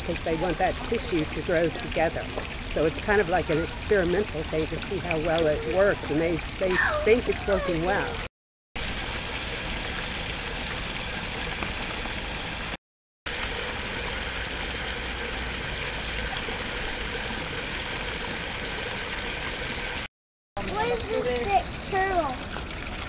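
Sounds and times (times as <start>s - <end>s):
water pouring and splashing: 0.0s - 23.0s.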